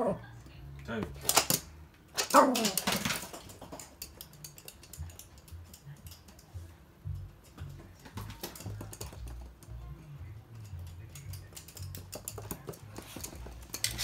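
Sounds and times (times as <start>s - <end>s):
dog claws clicking on hard floor: 1.1s - 6.5s, 7.2s - 9.8s, 10.5s - 14.0s.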